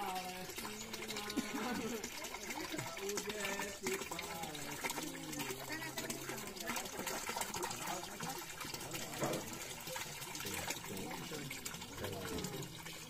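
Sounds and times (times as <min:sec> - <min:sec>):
faint voices talking: 0:00.0 - 0:13.0
running water rushing: 0:00.0 - 0:13.0.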